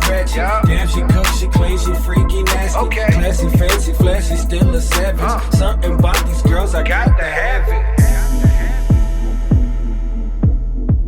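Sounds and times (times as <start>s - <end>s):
hip hop beat with deep kicks: 0.0s - 11.0s
rapped vocal: 0.0s - 11.0s.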